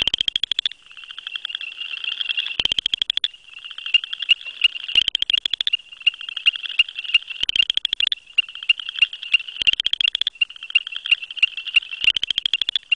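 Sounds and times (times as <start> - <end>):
frog trilling call: 0.0 - 12.9
high-pitched chorus with ticks: 0.0 - 12.9.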